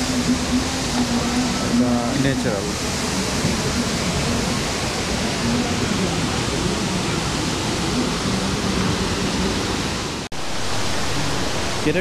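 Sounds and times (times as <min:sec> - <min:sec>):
waterfall and river roar: 0:00.0 - 0:12.0.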